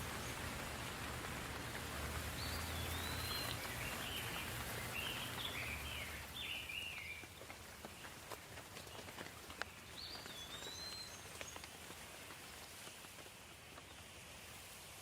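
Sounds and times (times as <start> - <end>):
soft rain with drop ticks: 0.0 - 15.0.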